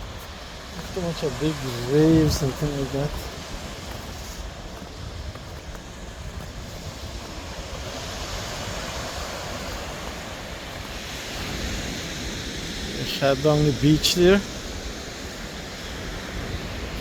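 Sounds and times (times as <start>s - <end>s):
gentle surf washing ashore: 0.0s - 17.0s
wind rumbling on microphone: 0.0s - 17.0s.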